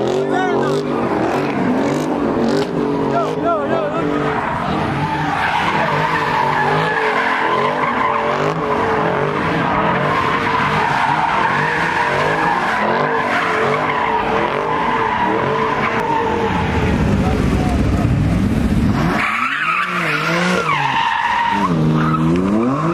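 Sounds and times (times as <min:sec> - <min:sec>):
car tires squealing: 0:00.0 - 0:18.2, 0:18.8 - 0:22.9
car engine revving: 0:00.0 - 0:22.9.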